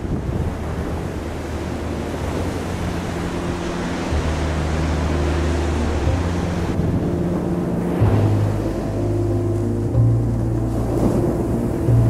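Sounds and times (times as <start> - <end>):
surf of waves breaking: 0.0 - 12.0
low sustained notes: 0.6 - 12.0.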